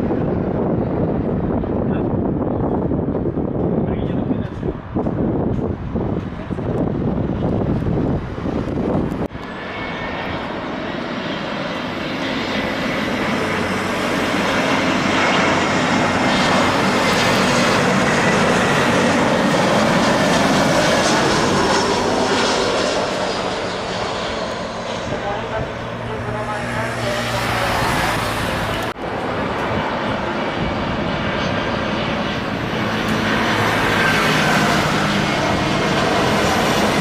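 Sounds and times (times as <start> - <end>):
wind rumble on microphone: 0.0 - 9.5, 12.0 - 37.0
airliner jet roar: 0.0 - 37.0
thin jet whine: 6.2 - 37.0.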